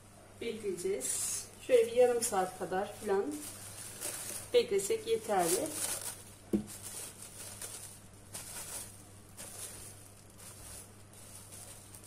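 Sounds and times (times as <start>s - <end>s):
plastic cling film rustling: 0.5s - 12.0s.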